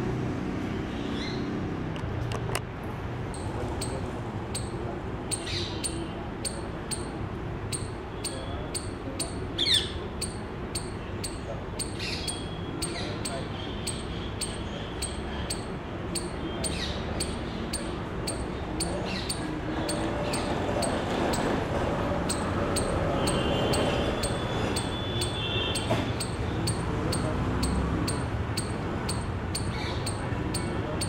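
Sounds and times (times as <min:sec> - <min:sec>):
outdoor background noise: 0:00.0 - 0:31.0
faint distant voices: 0:02.8 - 0:31.0
sharp regular ticking: 0:03.3 - 0:31.0.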